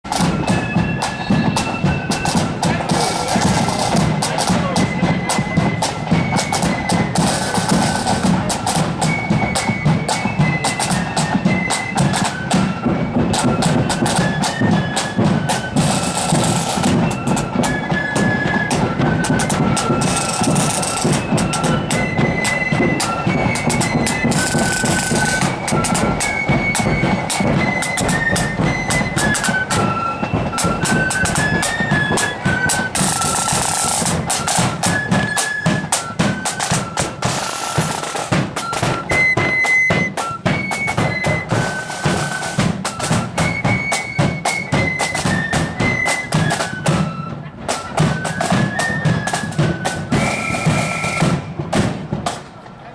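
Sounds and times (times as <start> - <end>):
flutes playing melody: 0.1 - 52.4
snare and bass drums: 0.1 - 52.9.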